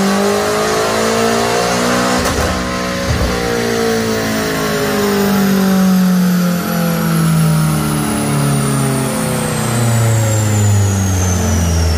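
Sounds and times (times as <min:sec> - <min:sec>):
car engine winding down: 0:00.0 - 0:11.9.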